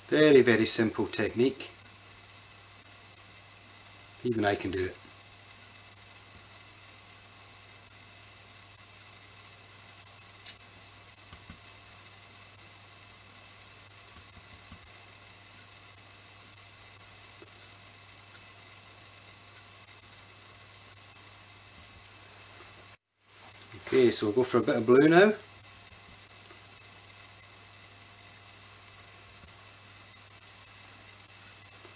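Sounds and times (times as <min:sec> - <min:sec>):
low mains hum: 0:00.0 - 0:31.9
steady high hiss: 0:00.0 - 0:31.9.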